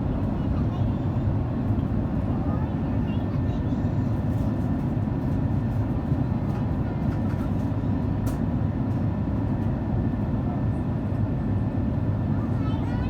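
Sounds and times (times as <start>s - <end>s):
cabin airflow and engine rumble: 0.0s - 13.0s.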